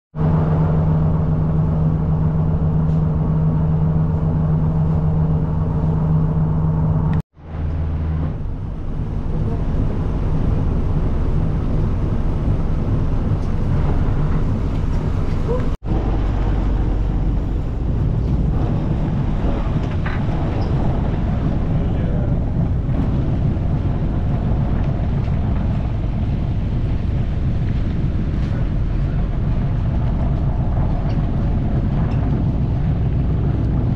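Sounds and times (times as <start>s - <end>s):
boat engine running: 0.2s - 33.9s
steady rushing noise: 0.2s - 33.9s.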